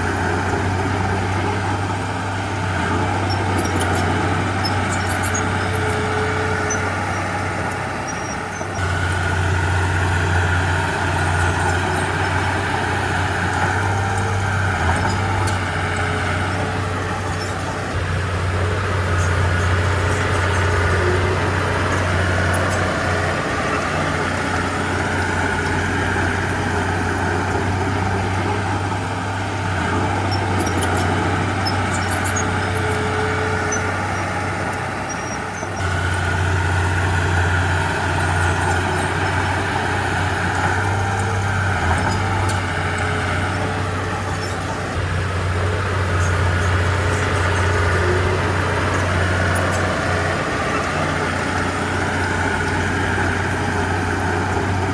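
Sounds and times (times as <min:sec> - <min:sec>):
heavy diesel machinery droning: 0:00.0 - 0:54.9.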